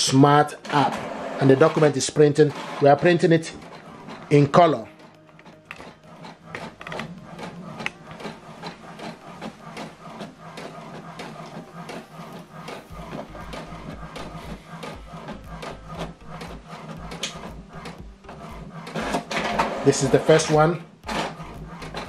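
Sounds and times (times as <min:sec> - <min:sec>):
inkjet printer ticking and whirring: 0:00.0 - 0:22.0.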